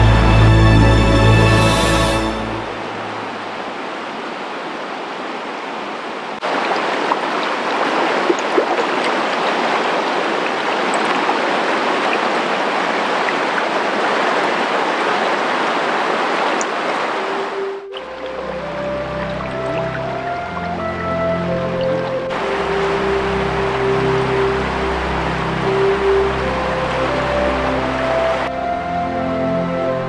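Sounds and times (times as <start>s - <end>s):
river rushing over weir: 0.1s - 28.6s.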